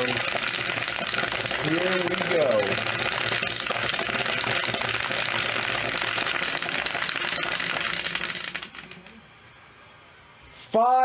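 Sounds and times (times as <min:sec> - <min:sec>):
dice rattling in plastic dome: 0:00.0 - 0:09.2.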